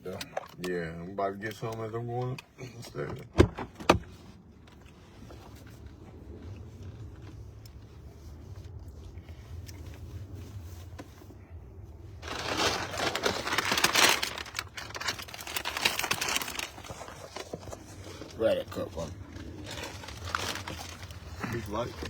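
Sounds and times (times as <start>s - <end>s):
low steady hum: 0.0s - 22.0s
close crinkling and rustling: 3.8s - 22.0s.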